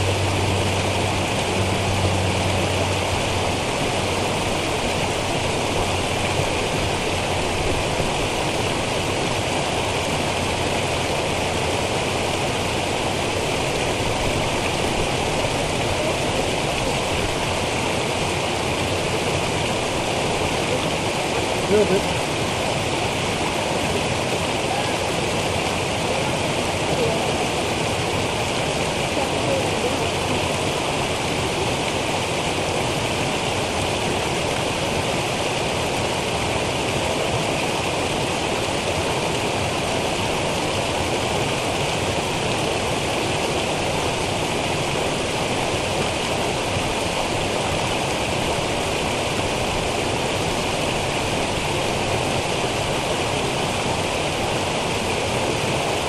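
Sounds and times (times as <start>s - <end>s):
brook water rushing over rocks: 0.0s - 56.0s.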